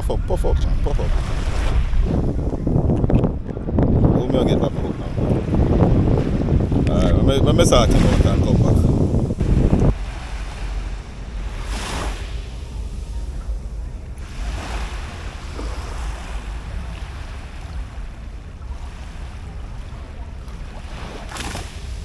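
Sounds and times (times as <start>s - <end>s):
sea waves washing on beach: 0.0s - 22.0s
wind rumbling on microphone: 0.0s - 22.0s.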